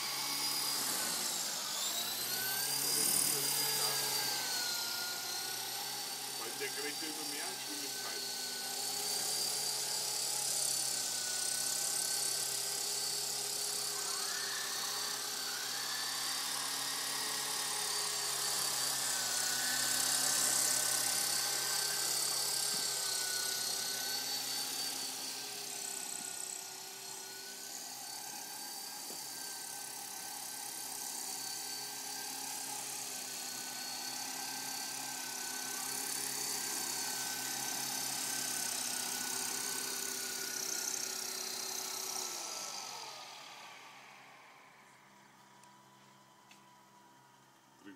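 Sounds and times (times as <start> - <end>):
rc helicopter rotors whining: 0.0 - 47.9.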